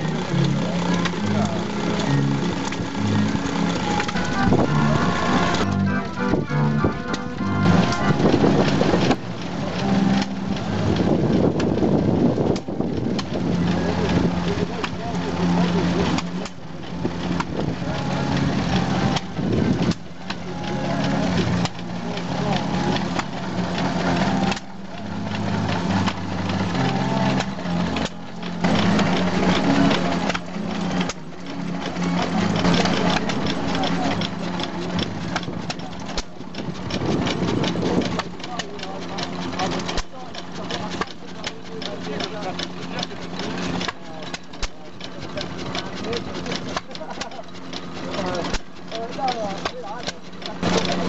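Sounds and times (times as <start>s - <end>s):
stationary engines clattering: 0.0s - 51.0s.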